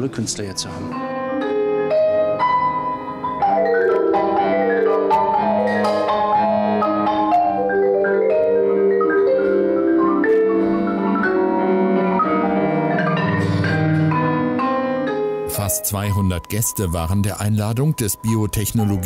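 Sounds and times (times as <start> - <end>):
marimba melody: 0.6 - 19.0.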